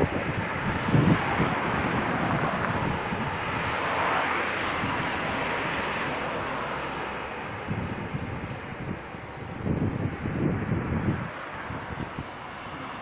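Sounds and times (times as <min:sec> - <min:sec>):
cars passing on a road: 0:00.0 - 0:13.0
wind buffeting microphone: 0:00.0 - 0:13.0.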